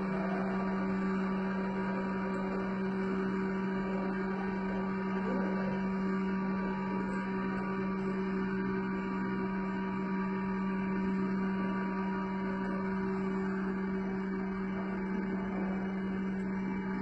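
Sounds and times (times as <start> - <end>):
grinder motor hum: 0.0 - 17.0.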